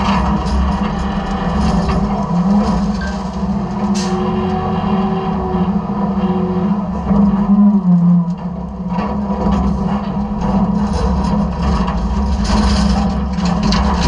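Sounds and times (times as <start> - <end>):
garbage truck engine humming: 0.0 - 14.0.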